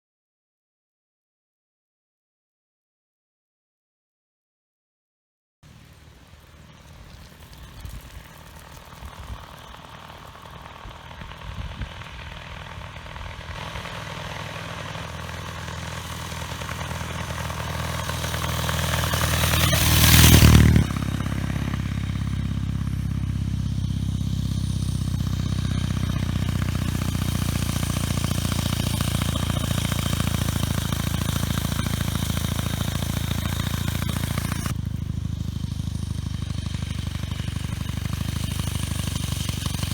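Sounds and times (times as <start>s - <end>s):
motorcycle engine running: 5.7s - 39.9s.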